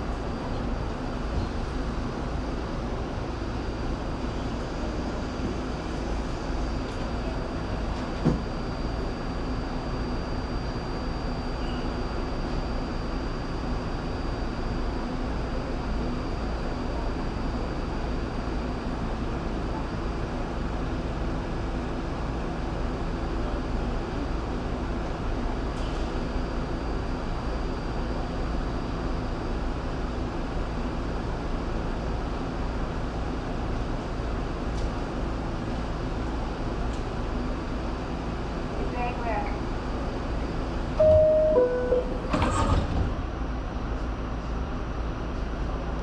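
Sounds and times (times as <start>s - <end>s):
subway train rumbling: 0.0s - 46.0s.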